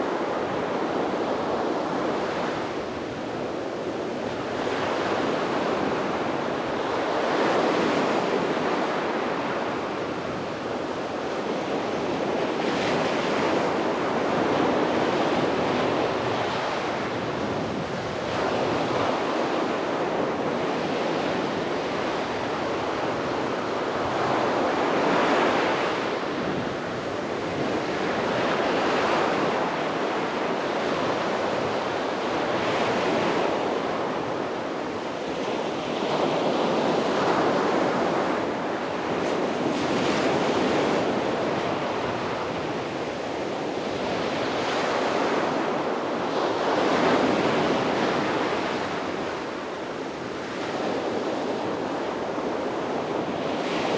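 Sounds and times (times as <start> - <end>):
waves breaking on a beach: 0.0 - 53.9
wind on microphone: 0.0 - 53.9.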